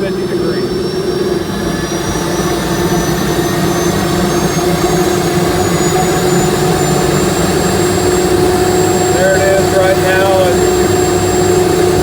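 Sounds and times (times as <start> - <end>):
low engine rumble: 0.0 - 12.0
turbine whine rising in pitch: 0.0 - 12.0.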